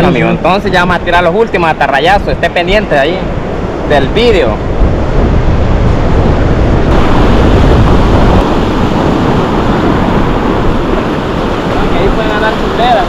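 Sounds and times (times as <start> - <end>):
surf washing up beach: 0.0 - 13.0
wind buffeting microphone: 0.0 - 13.0.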